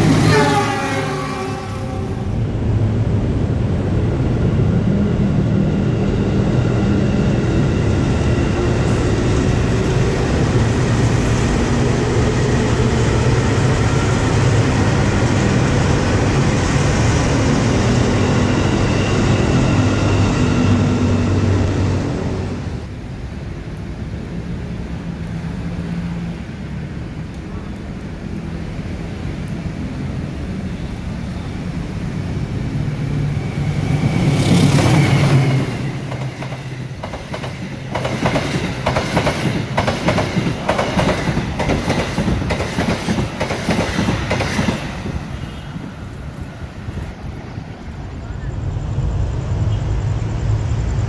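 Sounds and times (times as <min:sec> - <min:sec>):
faint train whine: 0:00.0 - 0:51.0
train wheels rumbling on rails: 0:00.0 - 0:51.0.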